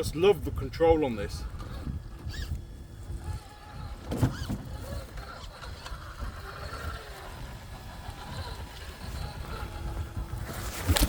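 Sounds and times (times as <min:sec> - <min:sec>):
toy car motor whining: 0:00.7 - 0:11.0.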